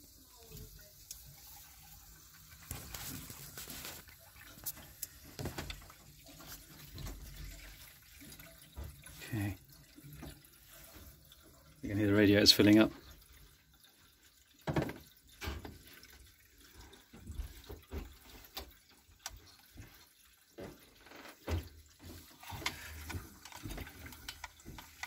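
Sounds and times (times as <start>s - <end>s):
water gurgling in pipes: 0.0s - 25.0s.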